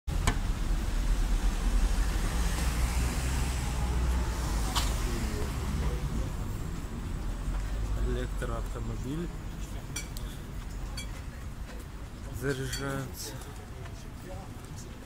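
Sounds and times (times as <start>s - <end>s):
street traffic rumble: 0.1s - 15.0s.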